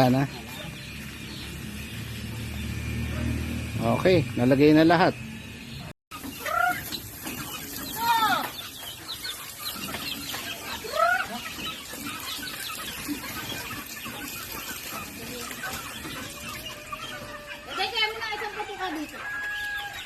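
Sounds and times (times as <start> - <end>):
chickens squawking: 0.0 - 20.0
chicks peeping: 0.0 - 20.0.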